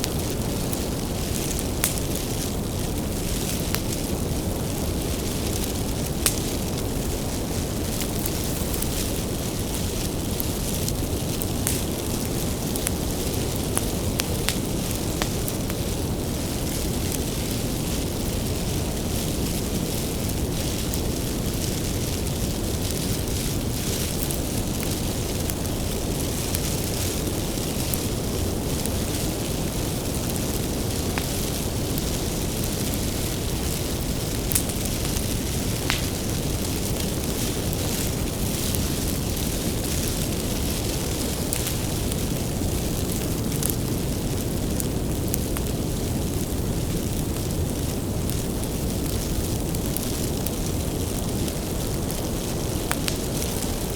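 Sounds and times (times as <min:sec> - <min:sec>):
bonfire flame rushing: 0:00.0 - 0:53.9
firewood crackling and popping: 0:00.0 - 0:53.9.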